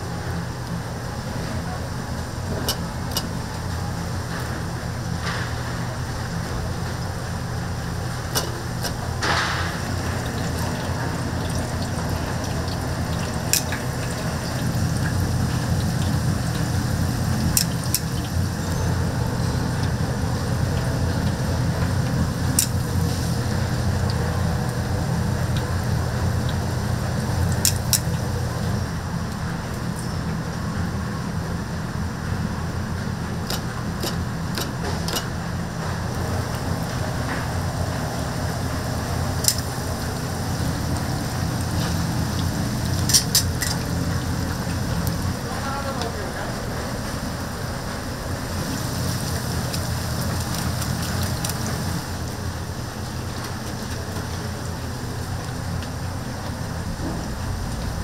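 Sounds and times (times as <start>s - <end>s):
oil sizzling: 2.3s - 31.1s, 32.1s - 58.0s.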